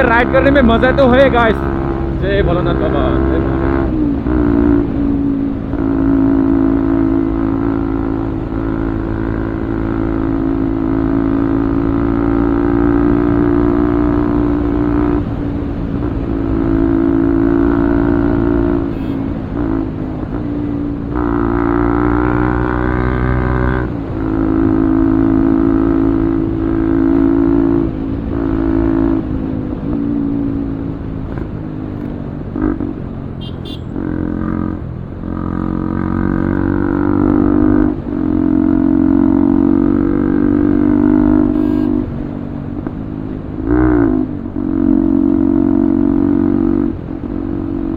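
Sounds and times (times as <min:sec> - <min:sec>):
motorcycle engine while riding: 0:00.0 - 0:47.9.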